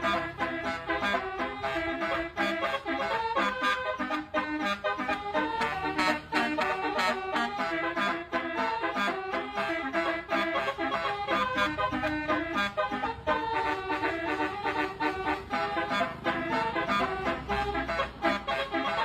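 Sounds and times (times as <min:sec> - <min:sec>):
multi-note air horn melody: 0:00.0 - 0:19.0.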